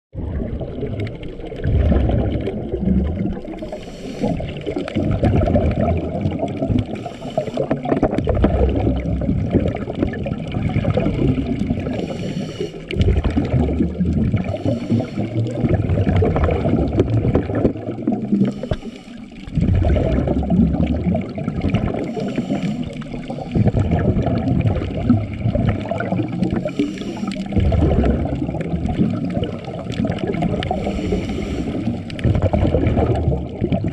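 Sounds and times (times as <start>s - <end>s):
underwater water rush: 0.1s - 33.9s
water bubbling: 0.1s - 33.9s.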